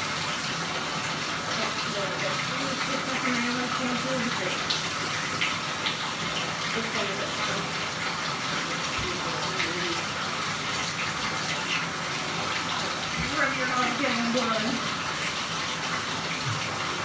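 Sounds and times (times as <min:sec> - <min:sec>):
tap water running into bathtub: 0:00.0 - 0:17.0.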